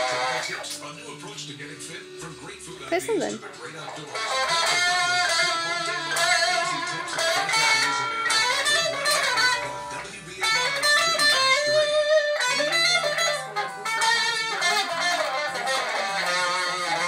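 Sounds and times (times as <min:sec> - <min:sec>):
electric guitar playing: 0:00.0 - 0:00.8, 0:02.8 - 0:17.0.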